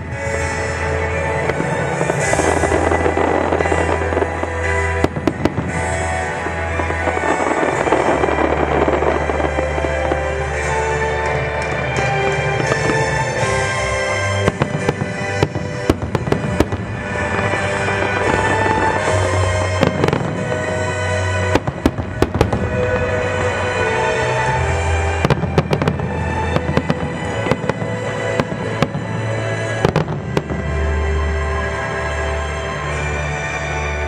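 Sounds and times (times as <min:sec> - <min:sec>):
fireworks bangs and crackles: 0:00.0 - 0:34.0
music over loudspeakers: 0:00.0 - 0:34.0.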